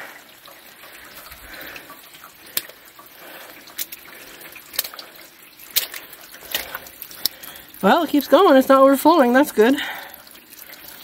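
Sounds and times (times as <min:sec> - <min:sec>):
sharp water drips: 0:00.0 - 0:11.0
water trickling through gutter: 0:00.0 - 0:11.0.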